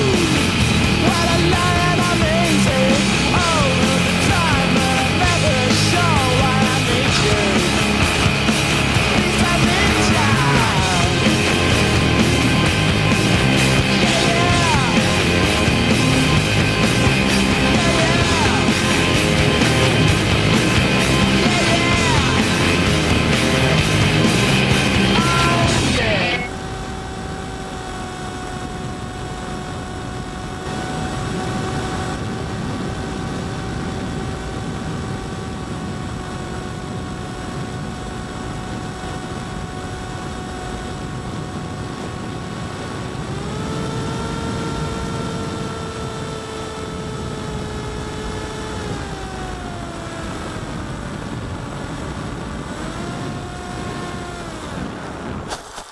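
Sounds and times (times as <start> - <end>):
electric motor and propeller whining: 0.0 - 55.9.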